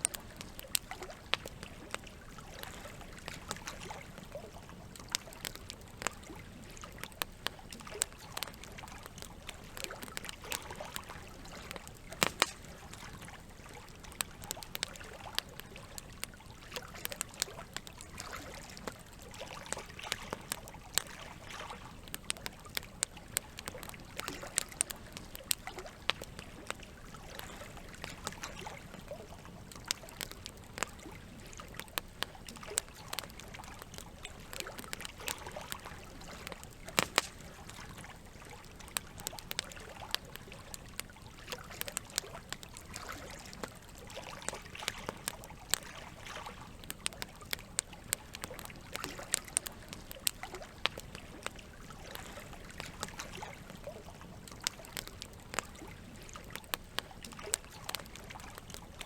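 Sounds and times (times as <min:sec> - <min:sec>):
campfire crackling and popping: 0:00.0 - 0:59.0
running water trickling: 0:00.0 - 0:59.0.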